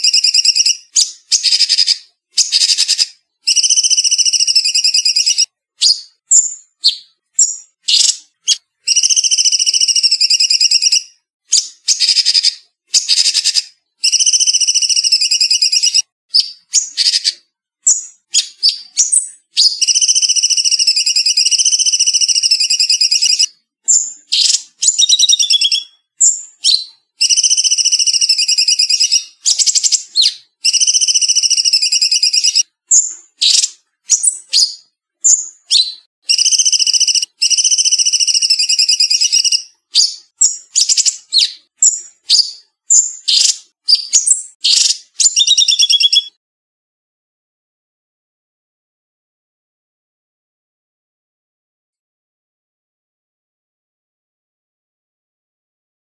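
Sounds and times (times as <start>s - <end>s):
bird trilling song: 0.0s - 46.4s
short sharp bird chirps: 0.0s - 46.4s.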